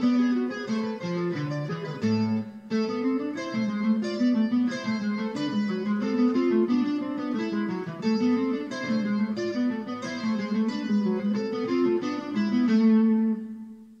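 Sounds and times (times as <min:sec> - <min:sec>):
acoustic guitar picked melody: 0:00.0 - 0:14.0.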